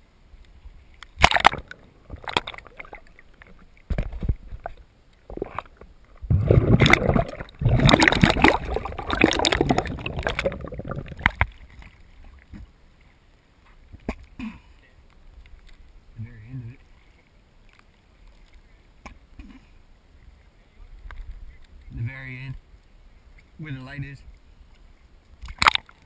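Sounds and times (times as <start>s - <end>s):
water splashing and gurgling: 0.0s - 22.6s, 23.2s - 26.0s.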